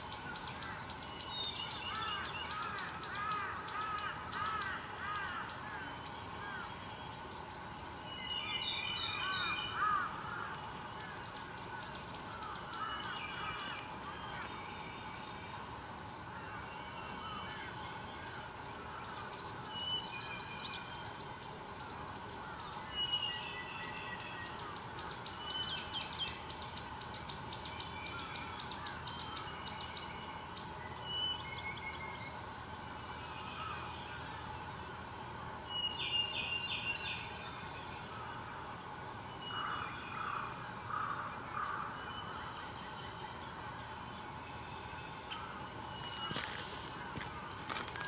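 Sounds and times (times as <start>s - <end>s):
songbirds singing: 0.0s - 34.8s, 35.4s - 48.0s.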